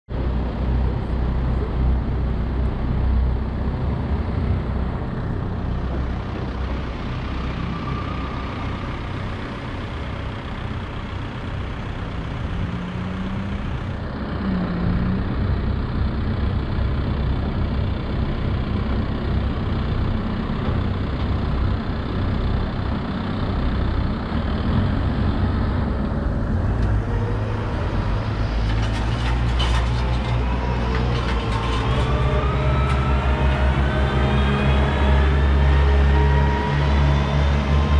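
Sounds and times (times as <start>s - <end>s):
low rumble of passing traffic: 0.1s - 37.9s.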